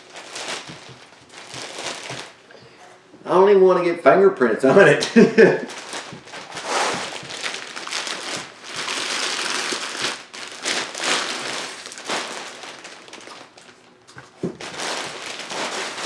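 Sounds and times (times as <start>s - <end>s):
plastic bag crinkling: 0.0s - 2.5s, 5.2s - 16.0s.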